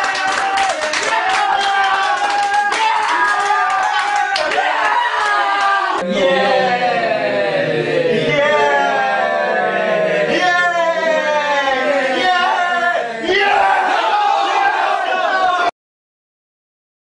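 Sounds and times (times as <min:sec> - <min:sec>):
men chanting without words: 0:00.0 - 0:15.7.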